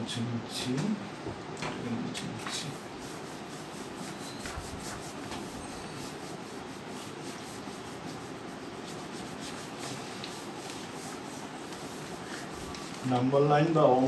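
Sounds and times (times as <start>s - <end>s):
whiteboard being wiped: 2.2s - 14.0s.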